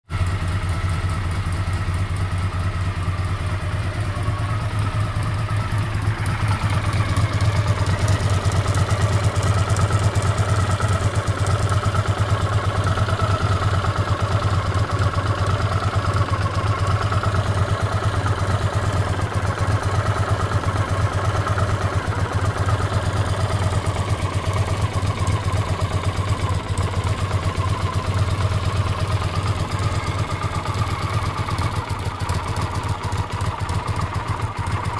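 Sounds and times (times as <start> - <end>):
motorcycle engine idling: 0.0 - 34.9
engine clicking: 0.2 - 34.9.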